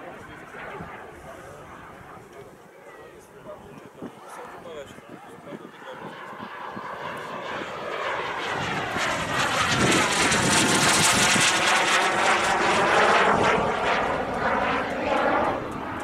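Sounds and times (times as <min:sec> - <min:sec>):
model jet engine flying past: 0:00.0 - 0:16.0.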